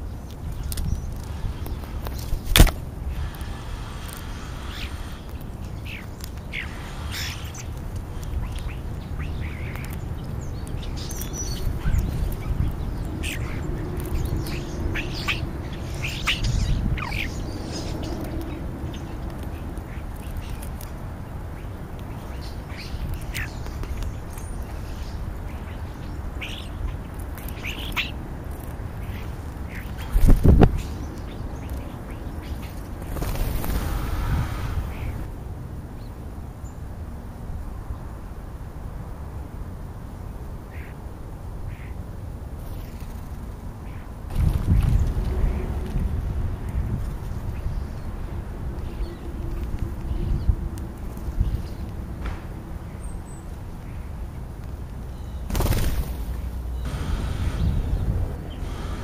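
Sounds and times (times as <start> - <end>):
birds calling and chirping: 0.0 - 35.4, 40.6 - 41.0, 42.6 - 59.0.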